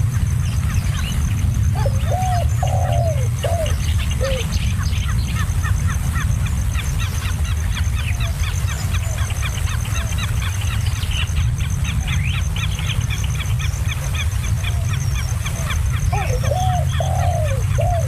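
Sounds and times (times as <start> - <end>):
steady low rumble: 0.0 - 18.0
chicks cheeping: 0.1 - 18.0.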